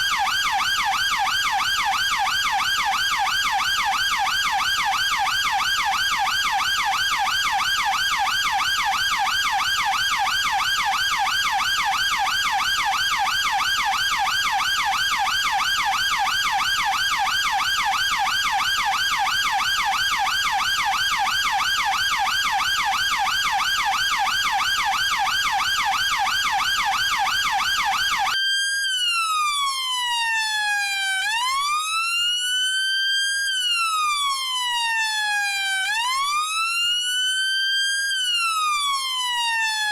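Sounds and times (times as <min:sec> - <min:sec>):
police car siren: 0:00.0 - 0:39.9.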